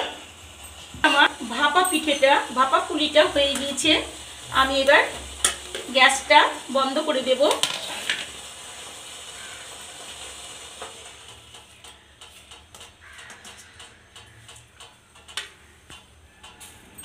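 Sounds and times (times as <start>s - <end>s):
steam hissing: 0.0s - 14.4s.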